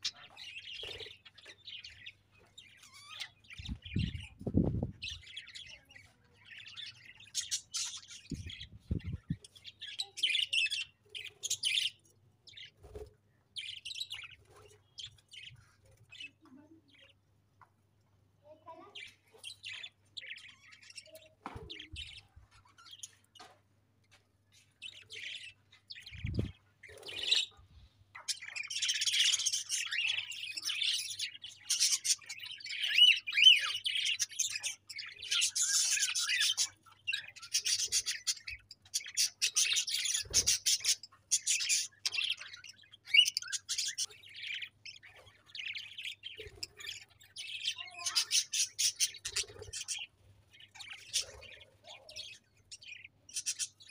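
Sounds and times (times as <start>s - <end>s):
budgerigars chirping and chattering: 0.0s - 17.2s, 18.6s - 23.5s, 24.5s - 53.9s.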